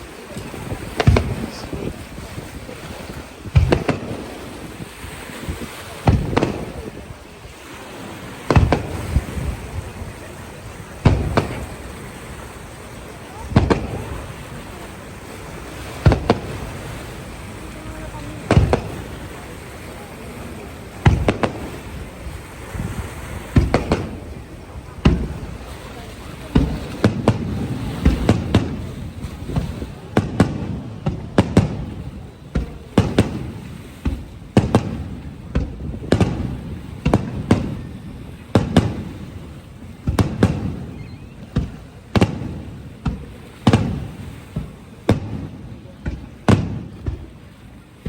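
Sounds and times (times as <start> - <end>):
firework shells booming: 0.0 - 48.0
lingering rumble: 0.0 - 48.0.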